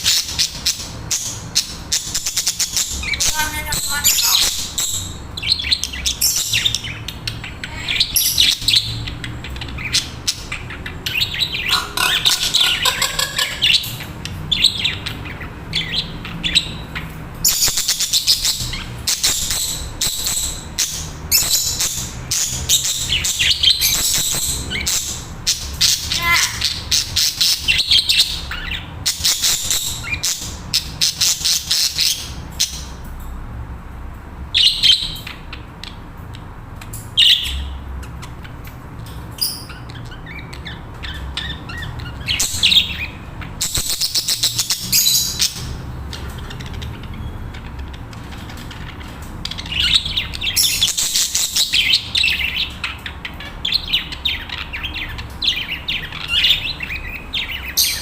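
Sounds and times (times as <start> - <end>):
parakeets chattering and warbling: 0.0 - 58.0.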